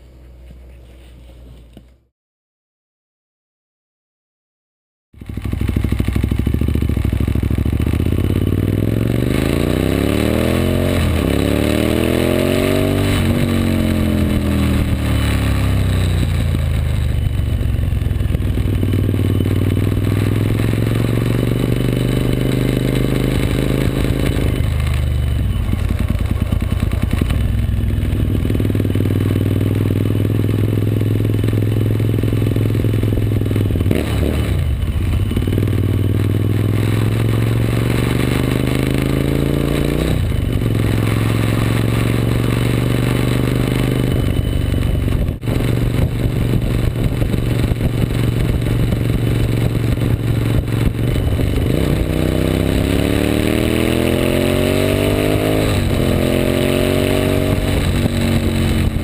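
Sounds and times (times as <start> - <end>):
motorcycle engine riding: 5.2 - 59.0.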